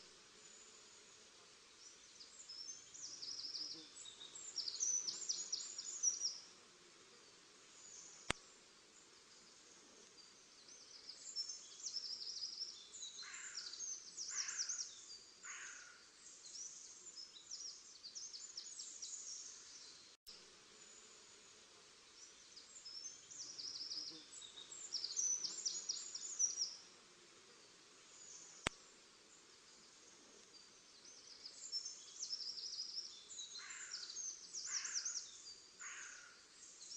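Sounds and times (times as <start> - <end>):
songbirds twittering: 0.0 - 6.5, 9.0 - 20.2, 22.1 - 26.9, 27.6 - 36.9
faint outdoor hiss: 0.0 - 36.9.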